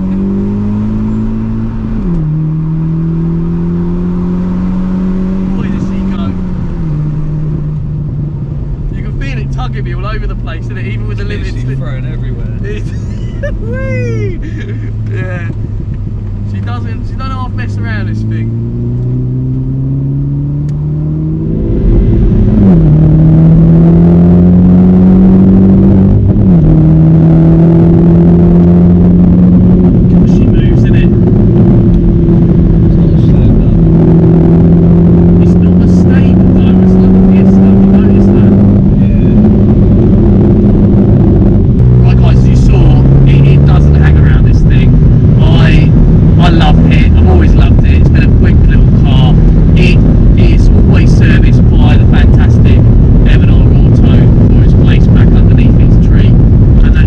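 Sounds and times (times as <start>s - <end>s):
car engine revving from cabin: 0.0s - 13.6s, 14.4s - 57.0s.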